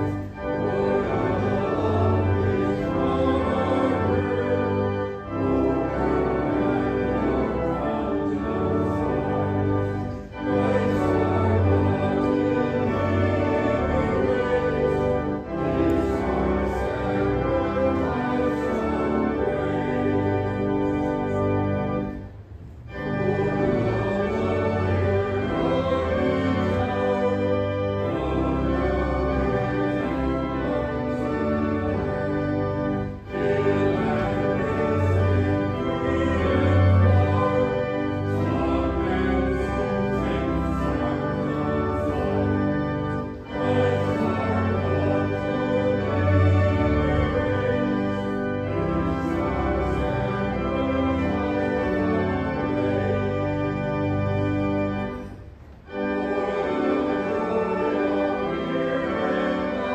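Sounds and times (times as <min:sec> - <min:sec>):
organ music: 0:00.0 - 0:59.9.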